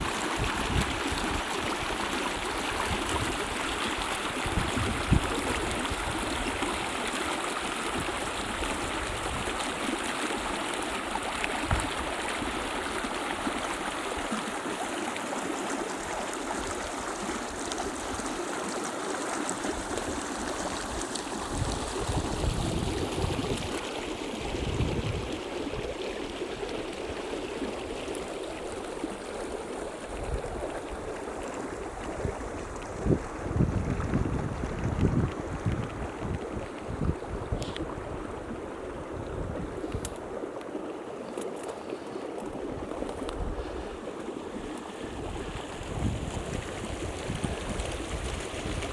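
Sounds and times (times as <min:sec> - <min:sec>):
creek water rushing: 0:00.0 - 0:48.9.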